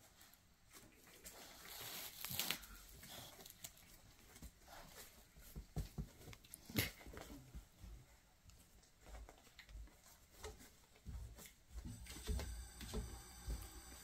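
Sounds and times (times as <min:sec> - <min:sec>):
soft rustling and crinkling: 0:00.0 - 0:14.0.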